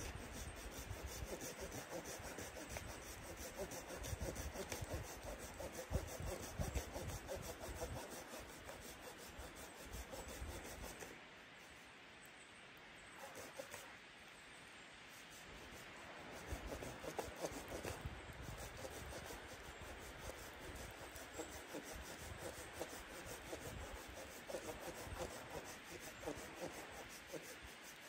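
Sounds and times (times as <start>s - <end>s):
hand saw sawing wood: 0.0s - 11.2s, 13.2s - 13.9s, 15.3s - 28.0s.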